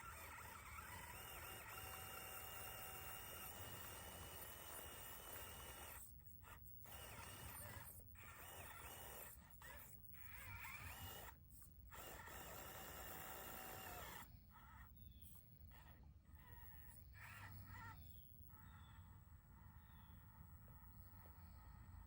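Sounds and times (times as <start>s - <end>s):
small electric motor whine: 0.0s - 22.0s.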